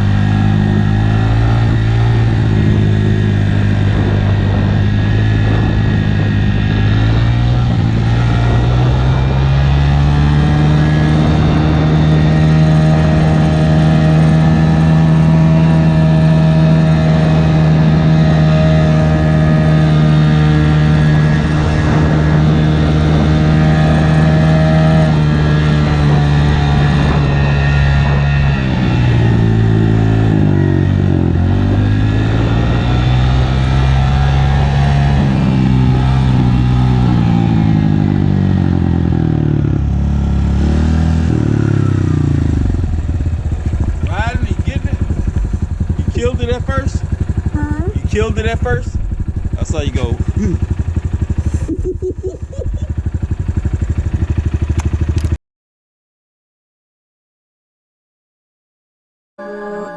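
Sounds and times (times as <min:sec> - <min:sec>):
motorcycle engine revving: 0:00.0 - 0:55.4.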